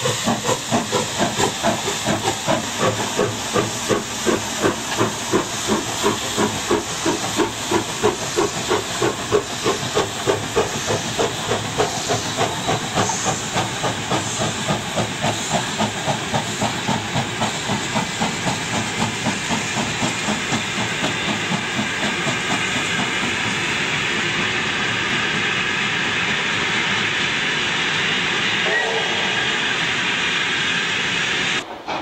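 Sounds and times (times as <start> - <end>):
hissing steam: 0.0 - 32.0
steam locomotive exhaust chuffing: 0.0 - 32.0.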